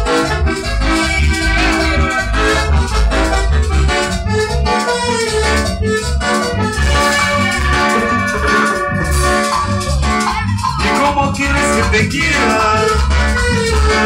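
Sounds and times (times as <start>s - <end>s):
latin dance band playing: 0.0s - 14.0s.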